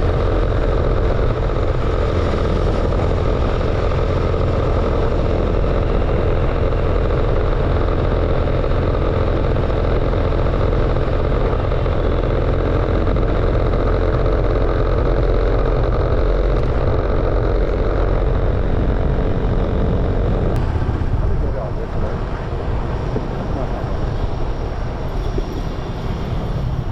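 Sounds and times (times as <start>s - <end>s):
motorcycle engine running: 0.0s - 26.9s
road noise: 0.0s - 26.9s.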